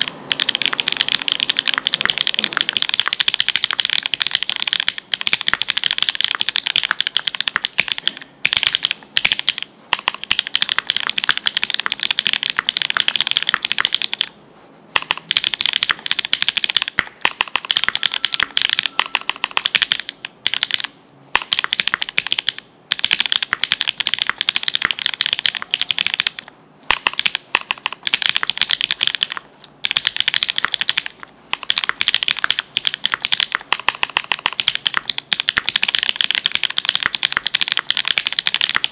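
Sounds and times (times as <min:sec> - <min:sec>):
mechanical keyboard typing: 0:00.0 - 0:14.4, 0:15.0 - 0:38.9.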